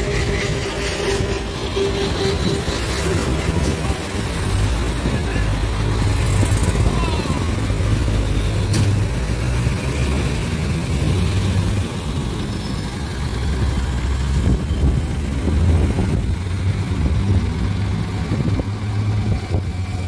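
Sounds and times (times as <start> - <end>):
engine and tyre rumble: 0.0 - 20.0
cars and motorcycles passing: 2.0 - 20.0.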